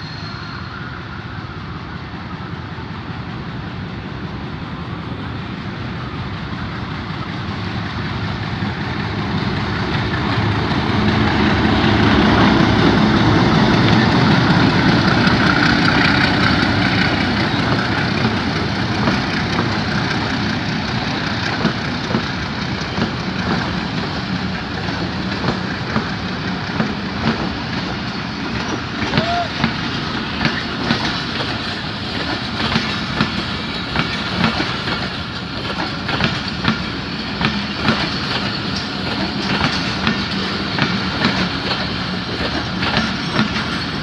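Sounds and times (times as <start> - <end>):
diesel locomotive engine passing: 0.0 - 44.0
wheels clicking over rail joints: 8.6 - 44.0.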